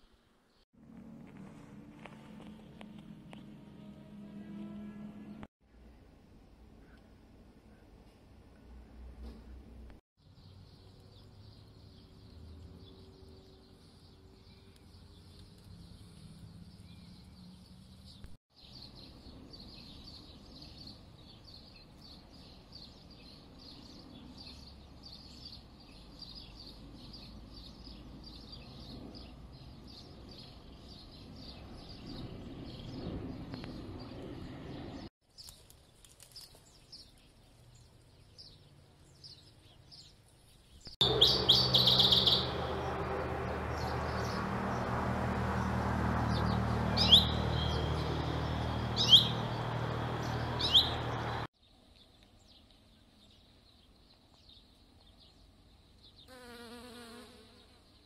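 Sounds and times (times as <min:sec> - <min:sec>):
small birds chirping: 0:10.2 - 0:44.9, 0:45.6 - 0:58.0.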